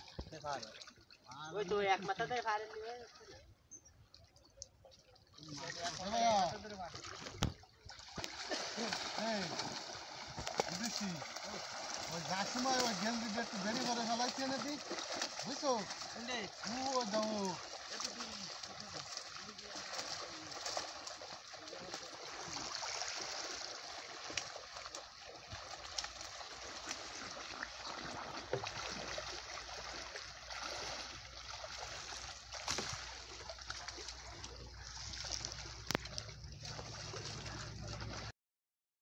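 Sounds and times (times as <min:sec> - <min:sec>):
water splashing and sloshing: 0:00.0 - 0:38.3.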